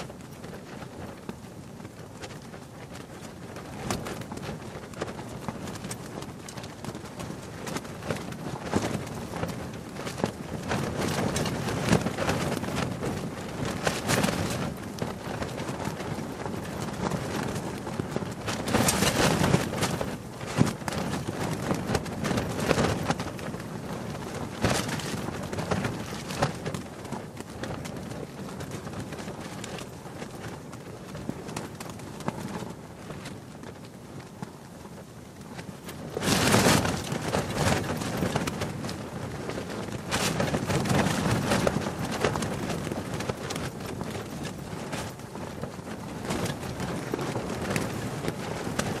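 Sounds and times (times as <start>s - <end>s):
fabric flapping in wind: 0.0s - 49.0s.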